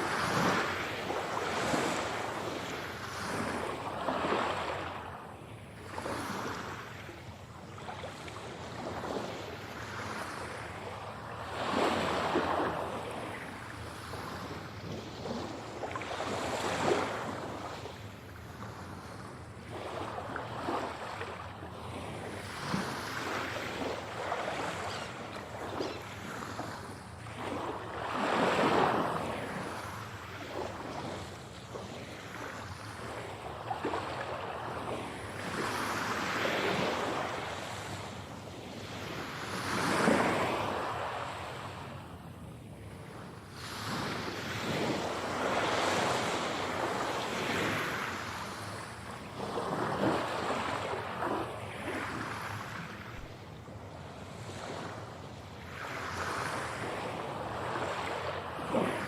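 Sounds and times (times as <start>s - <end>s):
ocean waves breaking: 0.0s - 5.2s, 5.8s - 41.9s, 42.8s - 59.0s.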